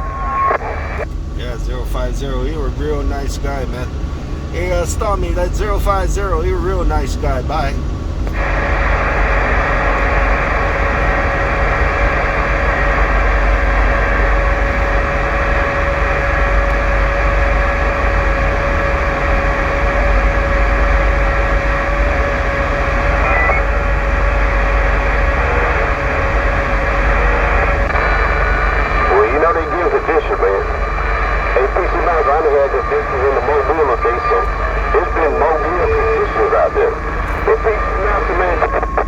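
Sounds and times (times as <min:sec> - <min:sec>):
constant hiss: 0:00.0 - 0:39.0
steady whine: 0:00.0 - 0:39.0
vehicle running rumble: 0:00.7 - 0:39.0.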